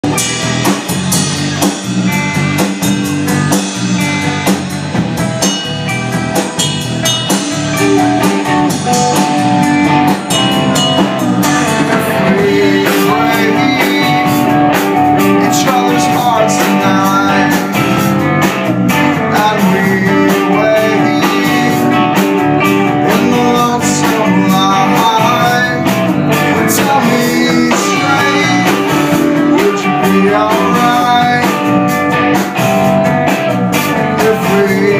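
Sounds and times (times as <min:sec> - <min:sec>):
bass guitar: 0:00.0 - 0:34.9
drum kit: 0:00.0 - 0:34.9
electric guitar: 0:00.0 - 0:34.9.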